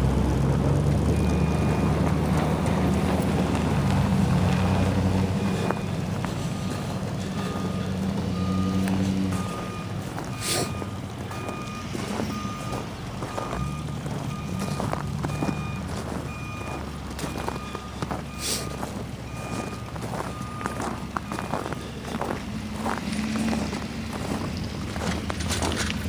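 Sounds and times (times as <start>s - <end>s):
engine running: 0.0s - 26.0s
reversing alarm beeping: 1.1s - 2.6s, 4.2s - 25.7s.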